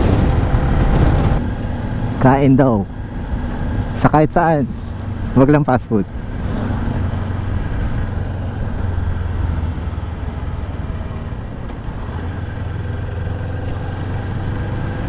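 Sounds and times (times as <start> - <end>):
motorcycle engine humming: 0.0 - 15.0
wind and road noise: 0.0 - 15.0.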